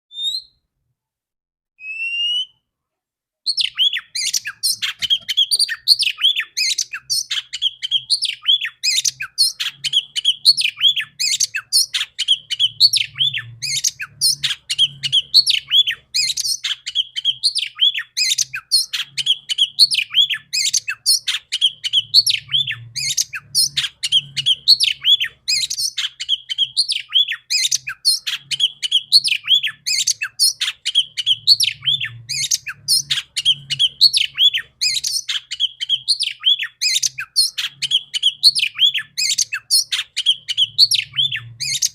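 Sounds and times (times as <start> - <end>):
magpie-robin chirps and whistles: 0.1 - 0.6, 1.8 - 2.6, 3.4 - 41.9.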